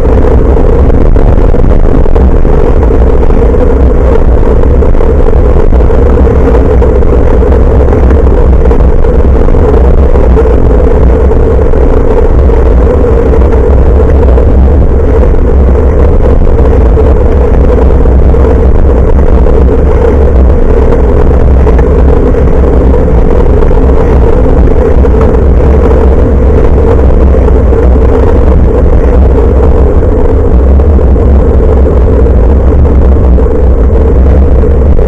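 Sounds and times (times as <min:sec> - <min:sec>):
constant hum: 0:00.0 - 0:35.0
low road rumble: 0:00.0 - 0:35.0
wind noise on microphone: 0:00.0 - 0:35.0.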